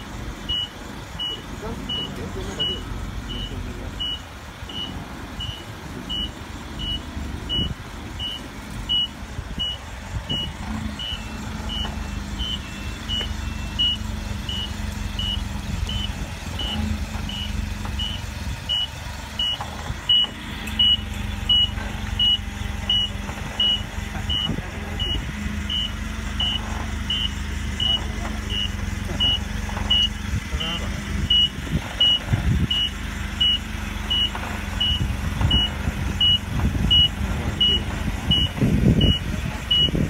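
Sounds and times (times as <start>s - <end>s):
reversing alarm beeping: 0.0s - 40.0s.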